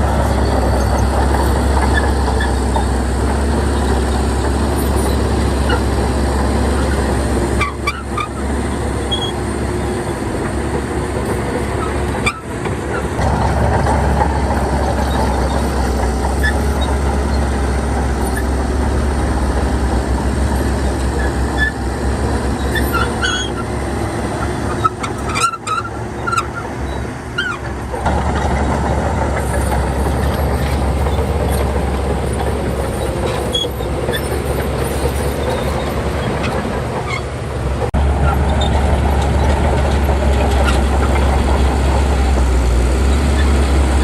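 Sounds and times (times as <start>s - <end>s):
heavy diesel machinery running: 0.0s - 44.0s
high squeaks and clanks: 0.1s - 6.0s, 6.7s - 10.2s, 11.2s - 13.2s, 14.2s - 19.7s, 20.4s - 37.4s, 38.2s - 41.7s.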